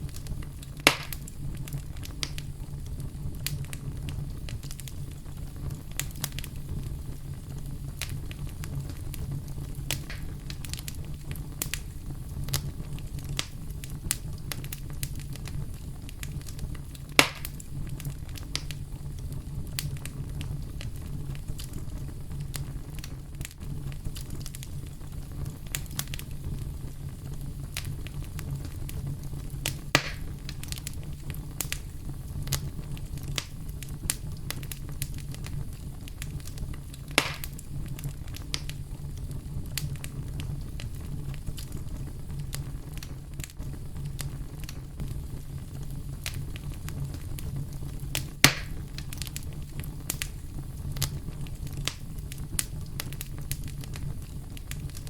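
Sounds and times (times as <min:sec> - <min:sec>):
campfire crackling: 0:00.0 - 0:55.0
fire pops: 0:00.0 - 0:55.0.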